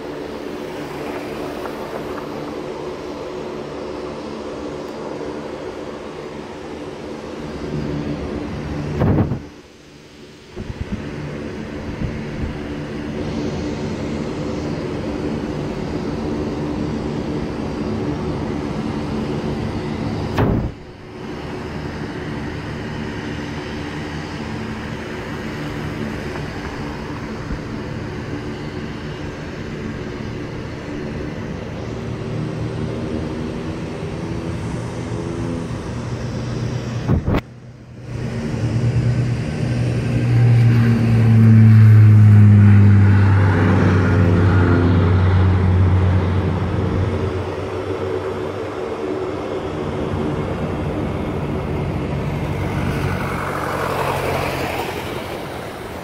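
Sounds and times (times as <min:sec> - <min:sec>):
aircraft engines droning: 0:00.0 - 0:56.0
turboprop plane rolling: 0:00.0 - 0:56.0.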